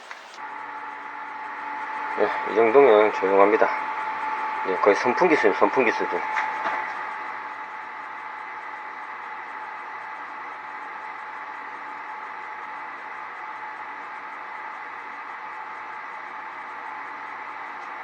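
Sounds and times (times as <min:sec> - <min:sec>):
air conditioner whirring: 0:00.0 - 0:18.0.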